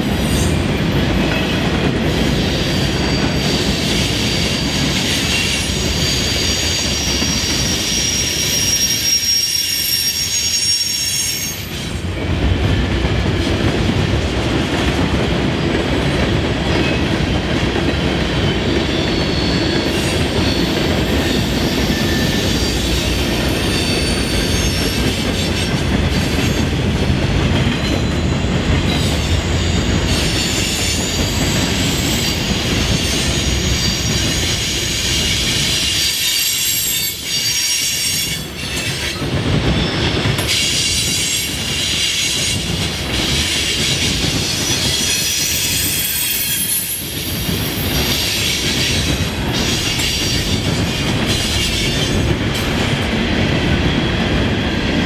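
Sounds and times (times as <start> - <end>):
train wheels clattering: 0.0 - 55.0.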